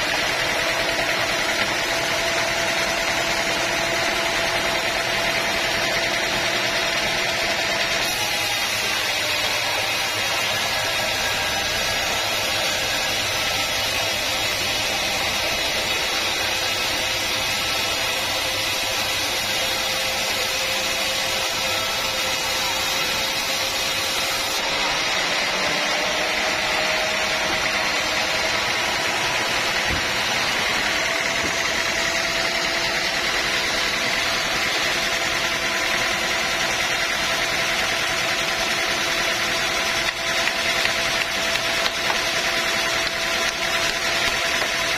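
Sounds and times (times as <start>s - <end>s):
sawmill saw running: 0.0s - 44.9s.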